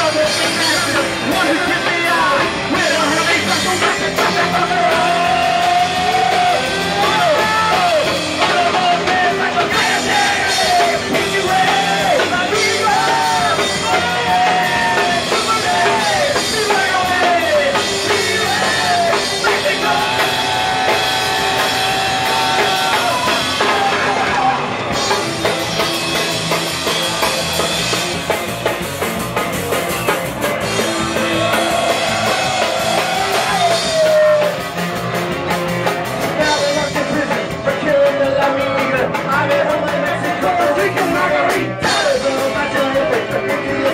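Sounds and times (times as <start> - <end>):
rock music with singing: 0.0 - 43.9.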